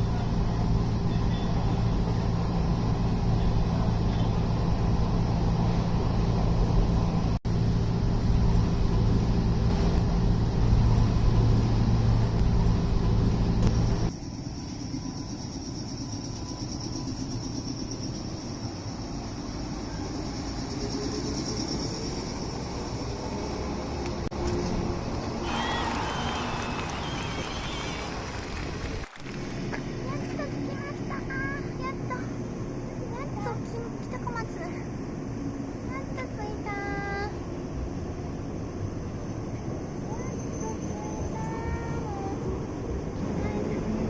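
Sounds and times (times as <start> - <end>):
vehicle rumble and hum: 0.0 - 44.0.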